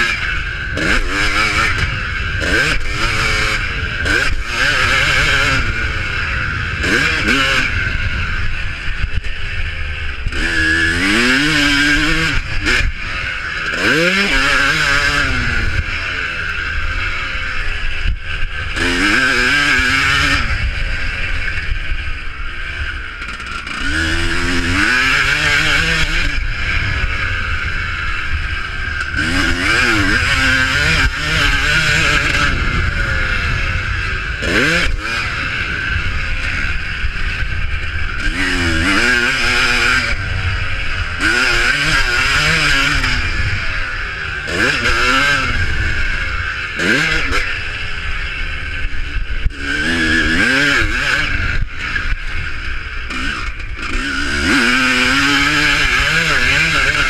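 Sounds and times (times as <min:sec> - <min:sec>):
motocross bikes revving: 0:00.0 - 0:57.0.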